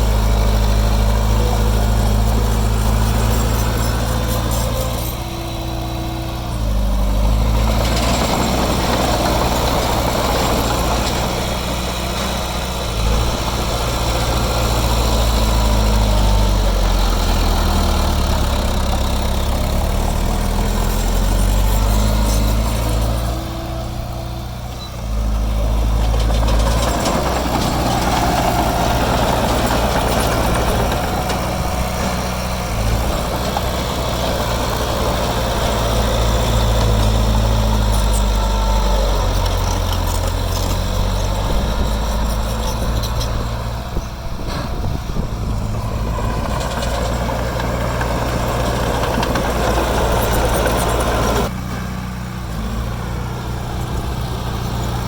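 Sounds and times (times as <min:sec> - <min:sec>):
heavy diesel engine working: 0:00.0 - 0:55.0.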